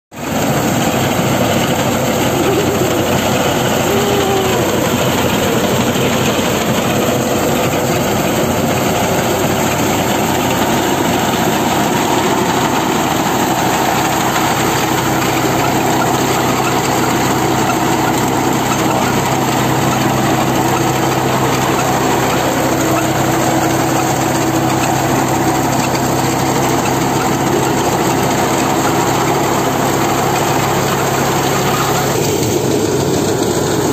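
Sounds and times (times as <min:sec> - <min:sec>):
tractor engine under load: 0:00.2 - 0:33.9.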